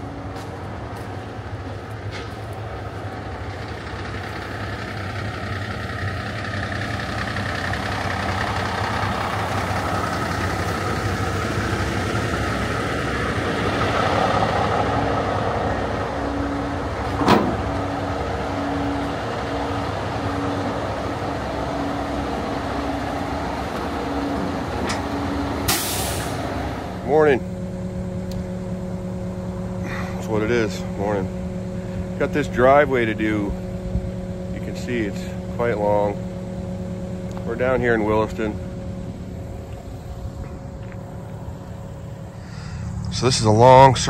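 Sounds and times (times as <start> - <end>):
diesel truck engines running: 0.0 - 44.0.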